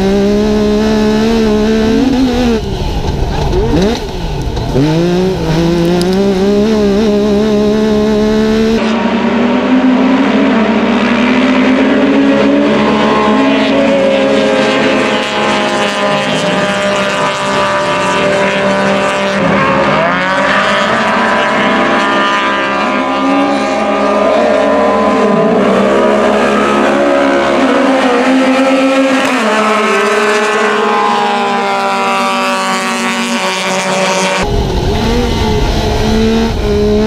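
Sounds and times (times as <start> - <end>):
racing engines passing: 0.0 - 37.0.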